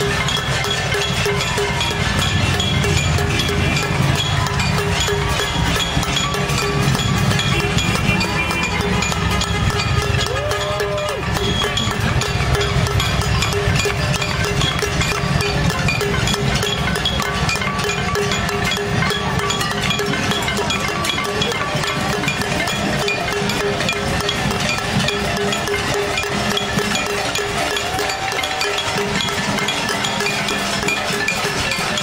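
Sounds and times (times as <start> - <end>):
crowd banging pots and pans: 0.0 - 32.0.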